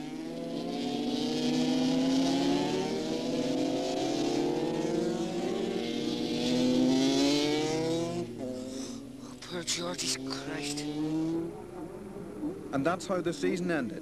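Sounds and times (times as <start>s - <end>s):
motorcycle engines at high revs: 0.0s - 14.0s.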